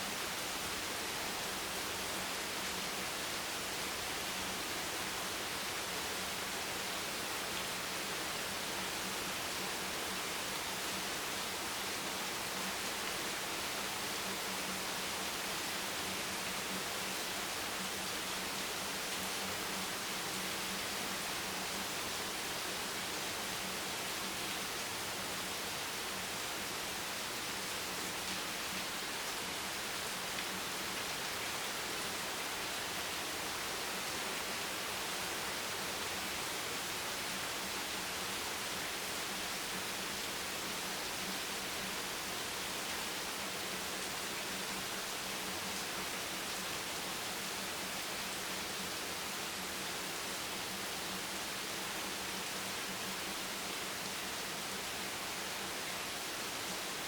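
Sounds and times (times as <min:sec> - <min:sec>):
heavy rain on a bench: 0:00.0 - 0:57.0.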